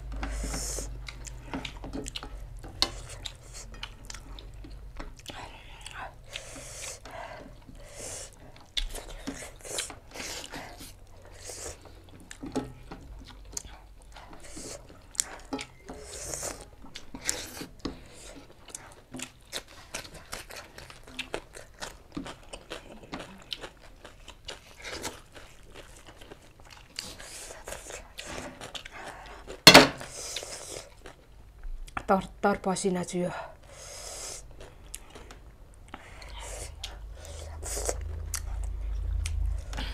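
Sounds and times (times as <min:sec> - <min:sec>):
chewing and lip-smacking: 0:00.0 - 0:32.1, 0:33.6 - 0:39.9.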